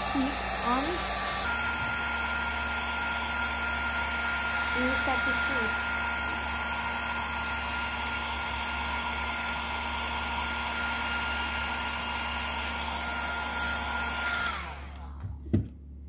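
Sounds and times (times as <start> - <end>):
heat gun blowing air: 0.0 - 15.2.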